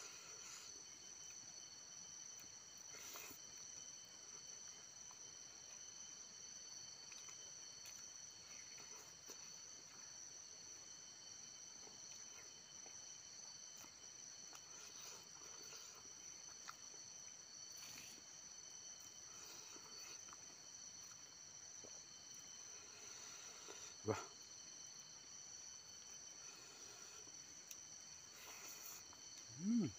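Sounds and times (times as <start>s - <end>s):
high-pitched insect chirring: 0.0s - 29.9s.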